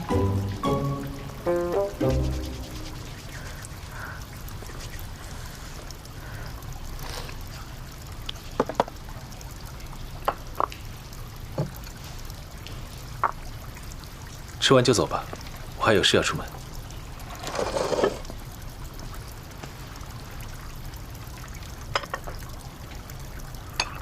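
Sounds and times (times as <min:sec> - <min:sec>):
liquid trickling: 0:00.0 - 0:24.0.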